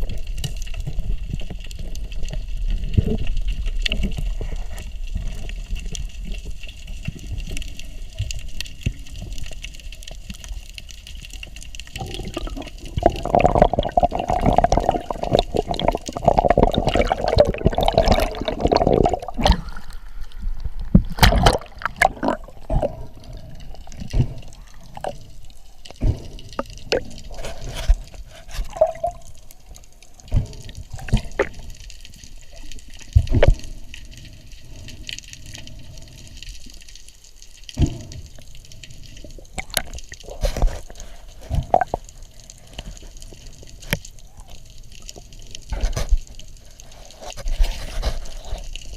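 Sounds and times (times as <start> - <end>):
underwater bubbling: 0.0 - 48.9.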